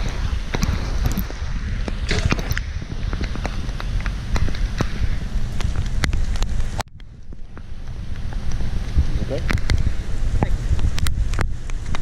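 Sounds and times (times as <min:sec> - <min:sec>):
raindrops ticking on camera: 0:00.0 - 0:12.0
wind buffeting microphone: 0:00.0 - 0:12.0.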